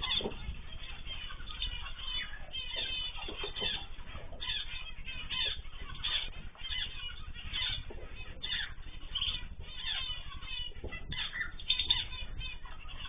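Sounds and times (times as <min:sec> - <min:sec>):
birds chirping and calling: 0:00.0 - 0:13.0
low steady hum: 0:00.0 - 0:13.0.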